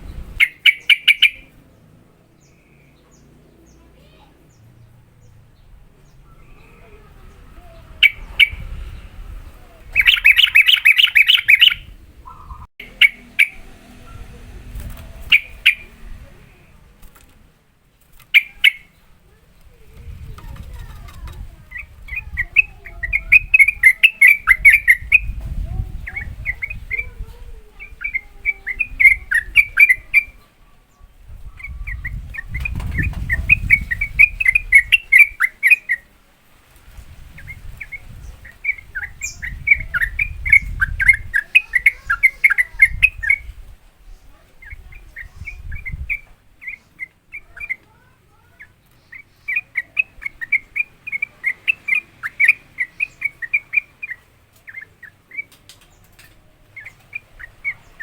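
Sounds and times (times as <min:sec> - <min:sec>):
bulbul singing chattering song: 0:00.0 - 0:17.2, 0:18.0 - 0:58.0.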